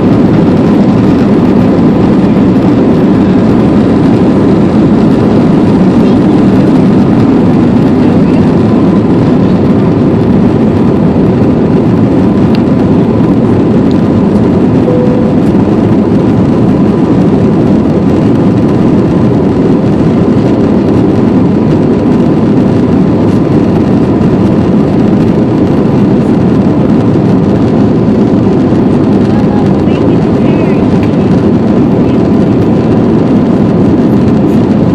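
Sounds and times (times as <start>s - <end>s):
airliner engine roar: 0.0s - 34.9s
faint steady whine: 0.0s - 34.9s.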